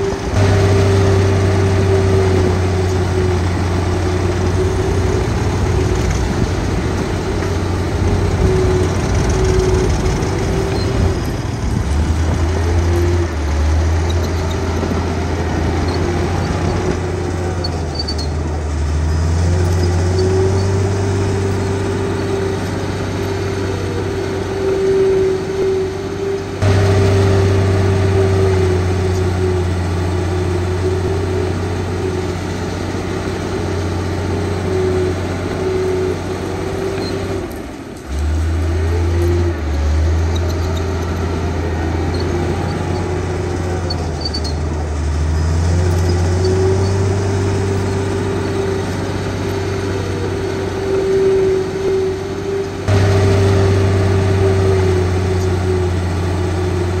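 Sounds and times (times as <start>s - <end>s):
diesel engine drone: 0.0s - 57.0s
steady machine whine: 0.0s - 57.0s.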